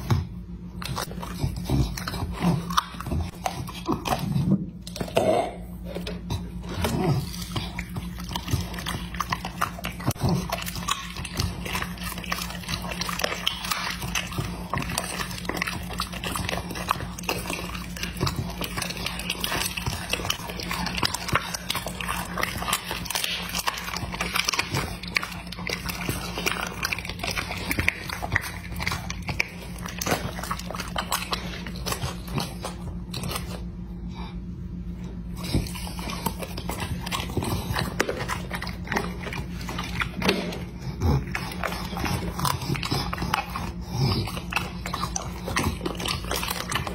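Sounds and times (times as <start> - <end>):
dog chewing raw meat: 0.0 - 46.9
steady low hum: 0.0 - 46.9.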